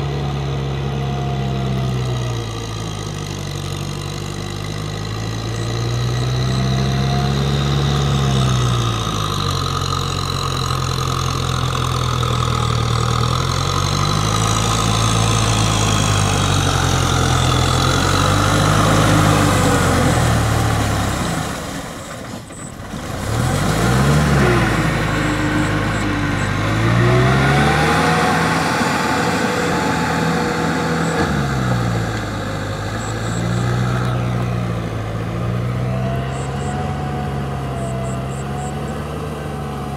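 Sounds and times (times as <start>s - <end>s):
tractor diesel engine working: 0.0s - 39.9s.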